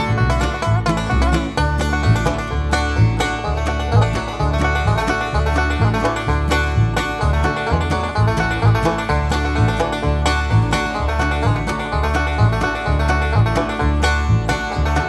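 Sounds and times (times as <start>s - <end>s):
upbeat country music: 0.0s - 15.0s.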